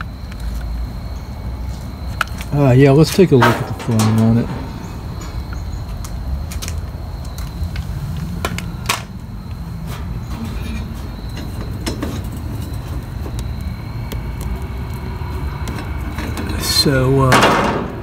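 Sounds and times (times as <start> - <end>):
steady low rumble: 0.0 - 16.2.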